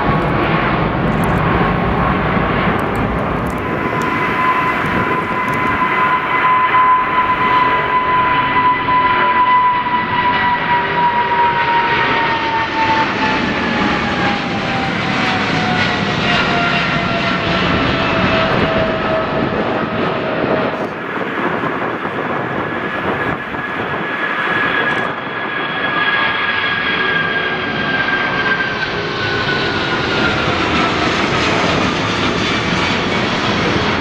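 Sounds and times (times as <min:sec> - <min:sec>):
jet engine roar and whine: 0:00.0 - 0:34.0
second jet engine whine: 0:00.0 - 0:34.0.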